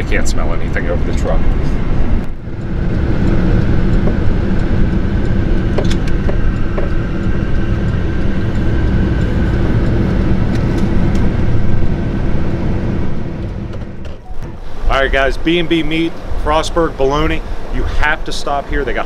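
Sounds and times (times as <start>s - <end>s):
faint constant whine: 0.0s - 19.0s
pickup truck engine and tyre noise: 0.0s - 19.0s.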